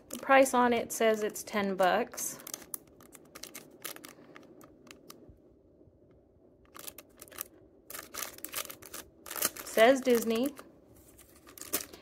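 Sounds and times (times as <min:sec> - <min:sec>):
plastic packaging crinkling: 0:00.9 - 0:05.2, 0:06.6 - 0:12.0.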